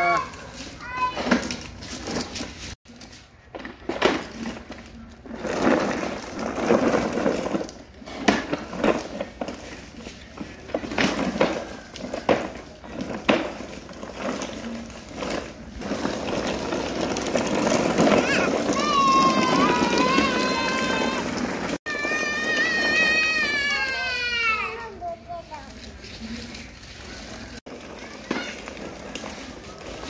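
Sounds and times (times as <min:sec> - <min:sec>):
plastic toy wheels rolling on paving: 0:00.0 - 0:30.0.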